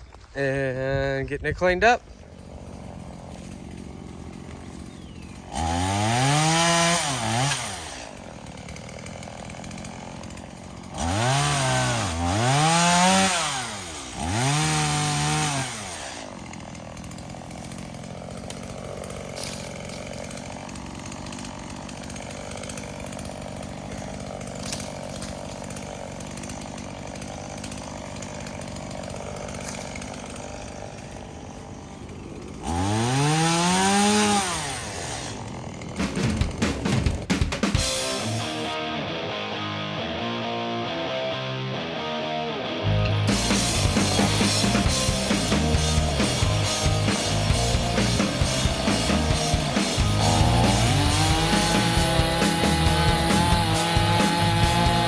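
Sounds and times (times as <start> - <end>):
chainsaw idling and revving: 0.2 - 55.0.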